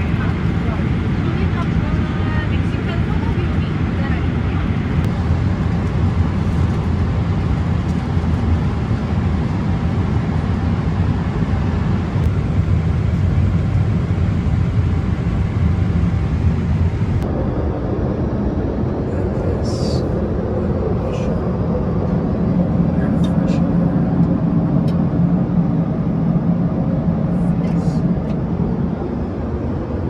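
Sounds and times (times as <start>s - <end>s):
airplane cabin engine noise: 0.0s - 30.0s.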